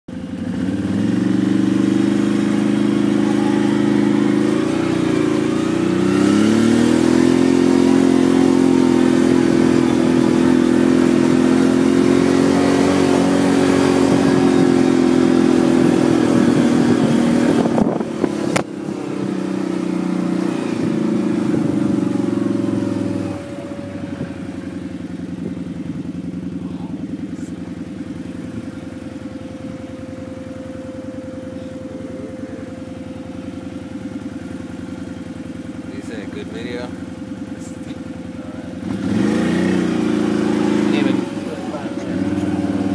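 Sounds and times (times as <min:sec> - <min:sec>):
atv engine running: 0:00.1 - 0:42.9.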